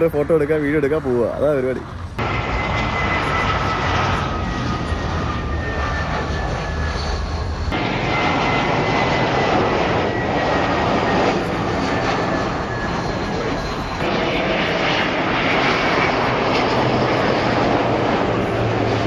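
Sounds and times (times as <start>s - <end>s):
jet engine whine falling in pitch: 0.0s - 19.0s
jet engines rushing: 0.0s - 19.0s.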